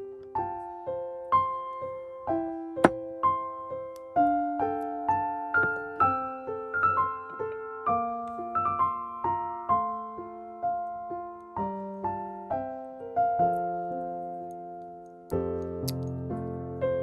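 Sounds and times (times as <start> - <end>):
gentle solo piano melody: 0.0 - 17.0.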